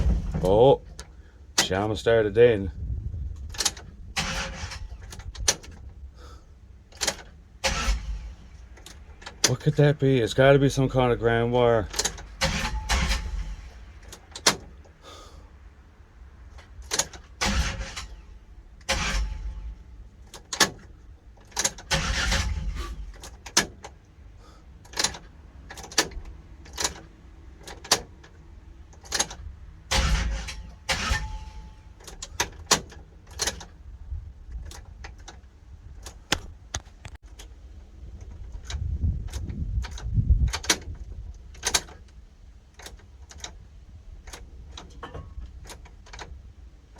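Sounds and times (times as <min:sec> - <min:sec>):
low rumbles: 0:00.0 - 0:46.9.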